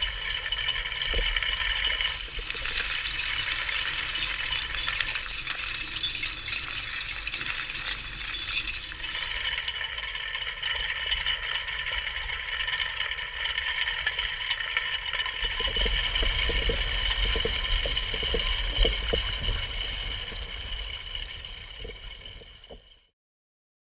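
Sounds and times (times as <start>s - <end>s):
underwater metallic rattling: 0.0s - 22.8s.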